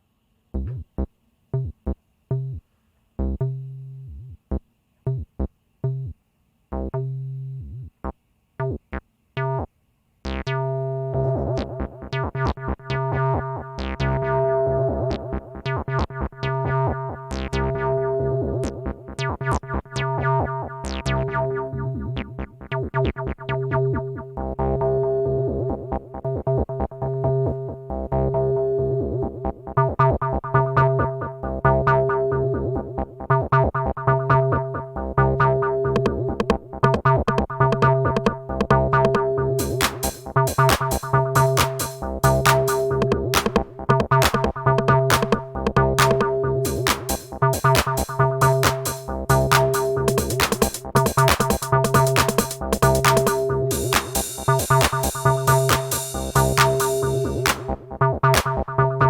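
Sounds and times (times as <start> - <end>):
synthesizer notes with echo: 10.3 - 59.0.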